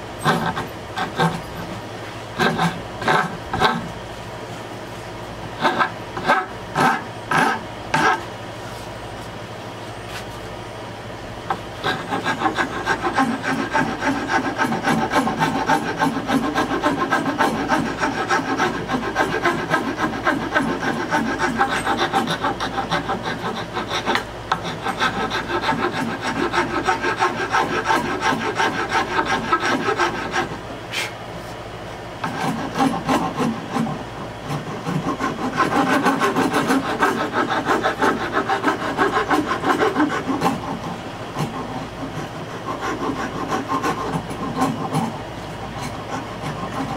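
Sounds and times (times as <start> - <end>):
rasp filing wood: 0.2 - 1.8, 2.4 - 3.9, 5.5 - 8.3, 11.5 - 31.1, 32.2 - 46.9.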